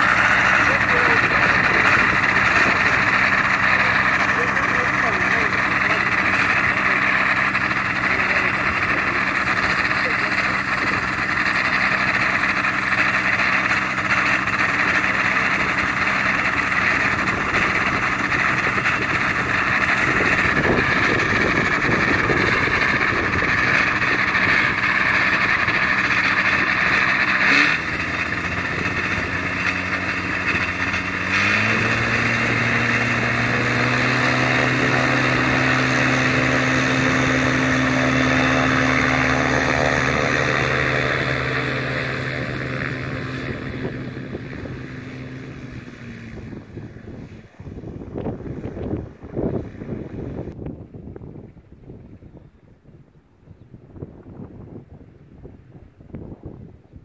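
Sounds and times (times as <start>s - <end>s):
propeller engine running: 0.0s - 53.0s.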